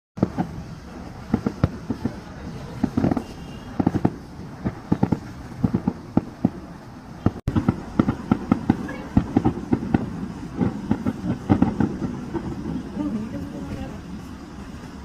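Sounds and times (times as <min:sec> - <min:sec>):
fireworks banging: 0:00.2 - 0:15.0.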